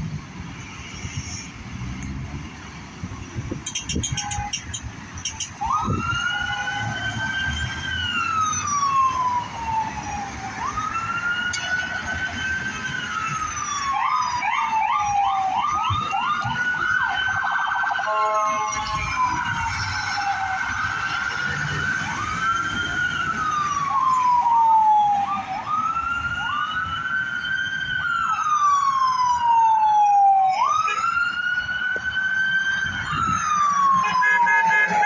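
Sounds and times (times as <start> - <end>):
siren wailing: 3.4 - 35.0.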